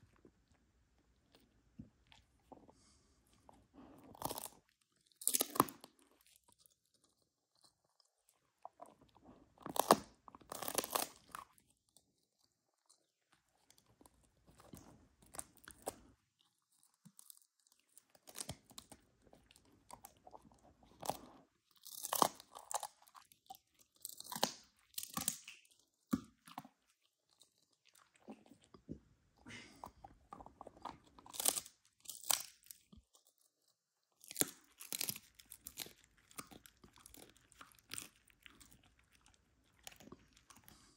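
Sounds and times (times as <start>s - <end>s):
dog crunching and chewing: 0.0s - 29.1s, 29.7s - 40.9s.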